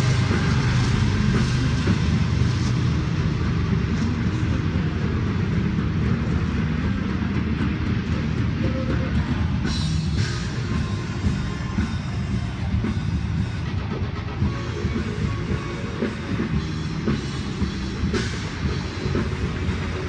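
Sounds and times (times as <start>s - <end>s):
freight train rumbling over bridge: 0.0s - 20.0s.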